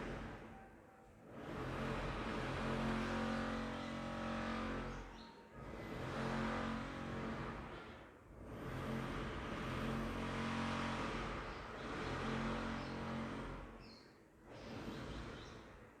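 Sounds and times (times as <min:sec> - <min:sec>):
vehicle engine passing by: 0:01.3 - 0:15.8.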